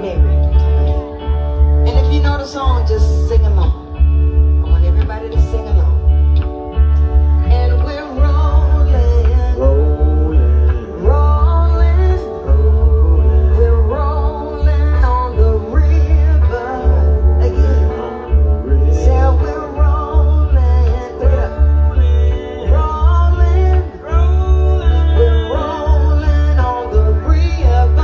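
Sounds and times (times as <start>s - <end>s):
guitar: 0.0s - 28.0s
heavy pulsing bass: 0.0s - 28.0s
person singing: 0.0s - 28.0s.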